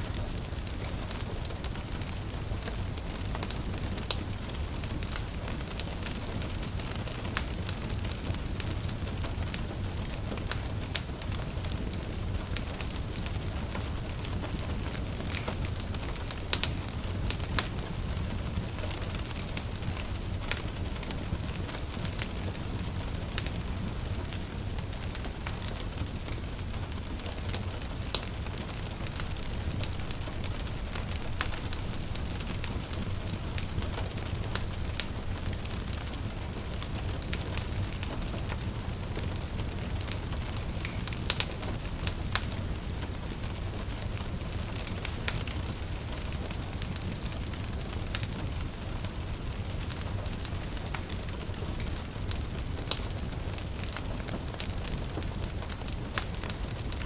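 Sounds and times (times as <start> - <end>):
gentle rain: 0.0 - 57.0
wood fire crackling: 0.0 - 57.0.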